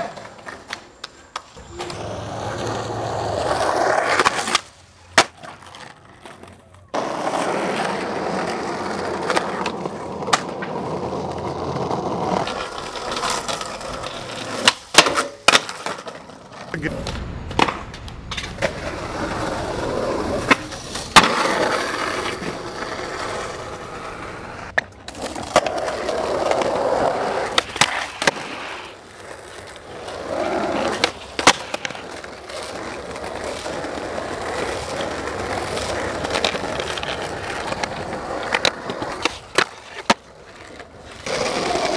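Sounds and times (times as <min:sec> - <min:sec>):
skateboard popping and landing cracks: 0:00.0 - 0:41.9
skateboard wheels rolling on asphalt: 0:00.0 - 0:41.9.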